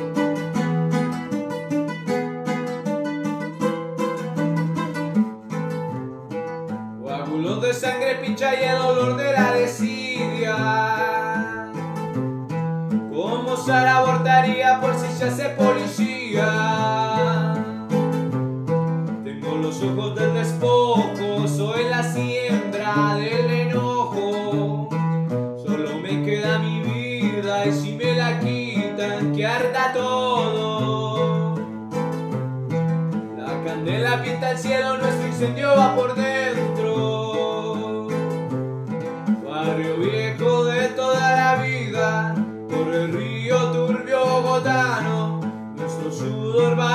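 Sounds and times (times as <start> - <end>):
man singing: 7.0 - 12.3, 12.9 - 18.4, 19.0 - 32.5, 33.1 - 46.9.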